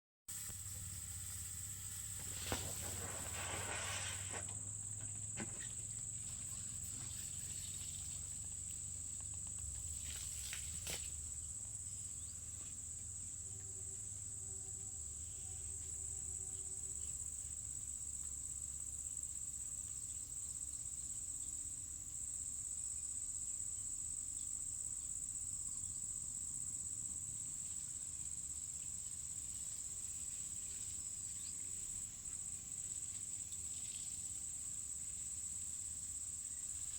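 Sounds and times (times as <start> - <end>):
insects trilling: 0.3 - 36.9.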